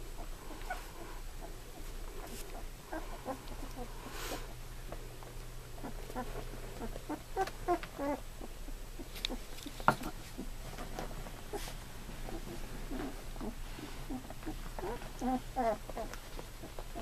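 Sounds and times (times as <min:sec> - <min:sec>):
puppies squeaking and whimpering: 0:00.2 - 0:04.4, 0:05.8 - 0:10.5, 0:11.4 - 0:17.0.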